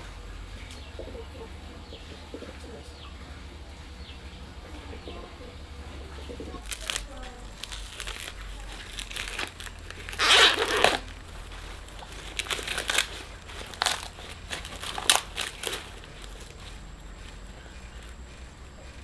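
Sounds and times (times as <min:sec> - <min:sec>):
dry material crackling and crunching: 0:00.0 - 0:19.0.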